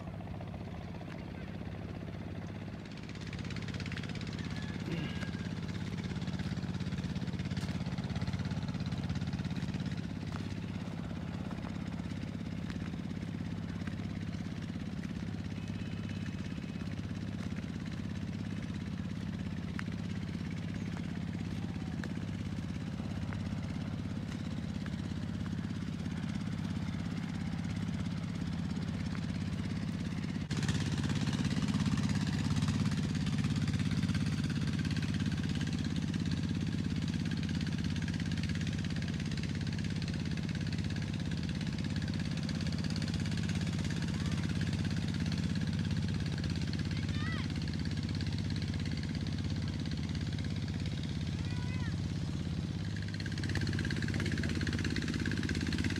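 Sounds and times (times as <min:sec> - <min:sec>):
engine humming steadily: 0:00.0 - 0:55.9.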